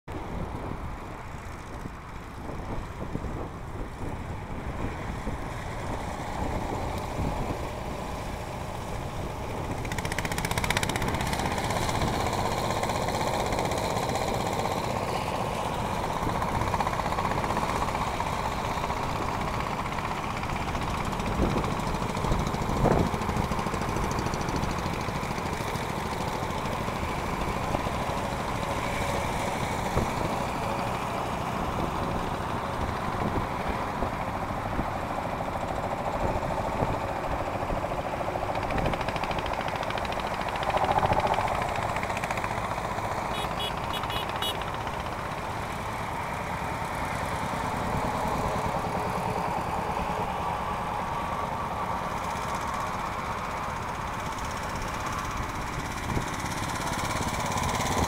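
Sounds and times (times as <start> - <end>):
tractor engines chugging: 0.1 - 58.0.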